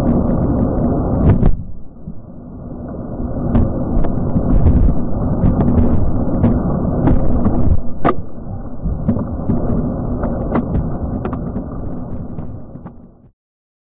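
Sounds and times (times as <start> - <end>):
deep rumble of blasting: 0.0 - 13.3.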